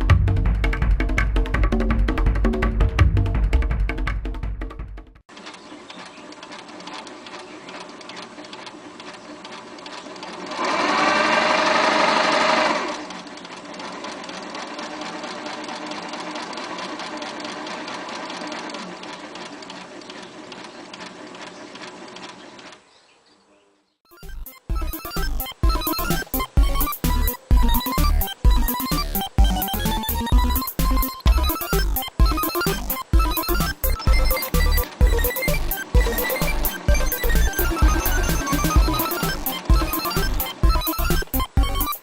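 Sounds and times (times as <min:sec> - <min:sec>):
electric sewing machine stitching: 0:05.3 - 0:22.8, 0:24.2 - 0:42.0.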